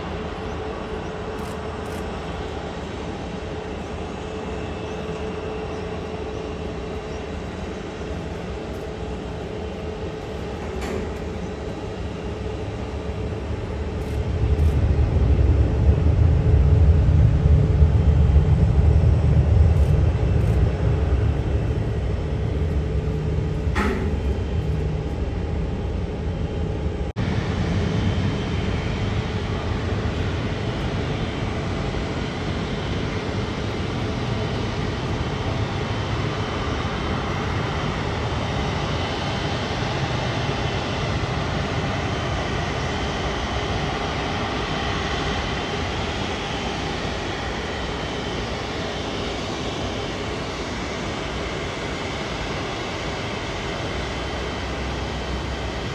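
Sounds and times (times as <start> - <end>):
jet engines roaring at low power: 0.0 - 55.9.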